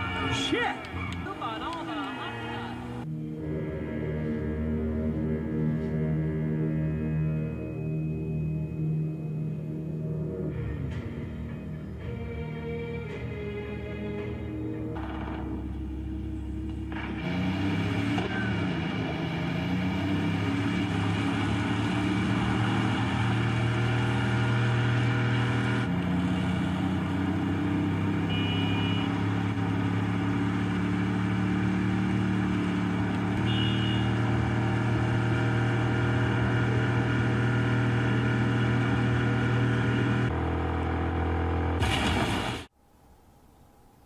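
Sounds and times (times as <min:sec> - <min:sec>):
video game car engine: 0:00.0 - 0:11.2, 0:14.9 - 0:42.7.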